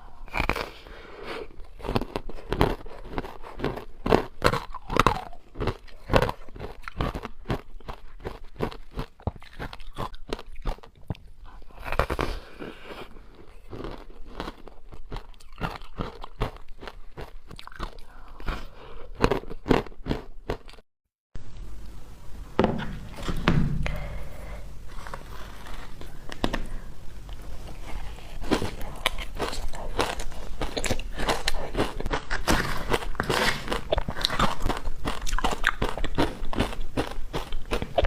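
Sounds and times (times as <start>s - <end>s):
biting and crunching frozen ice: 0.0s - 20.8s, 28.4s - 38.0s.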